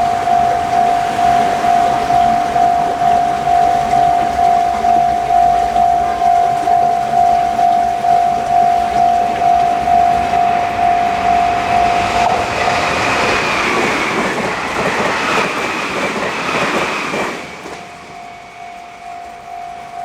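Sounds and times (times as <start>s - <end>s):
level crossing warning bell: 0.0s - 20.0s
train rumble and clatter: 0.0s - 20.0s.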